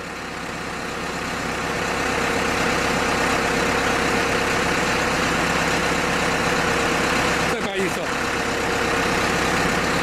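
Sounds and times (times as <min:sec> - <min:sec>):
drilling rig engine humming: 0:00.0 - 0:10.0.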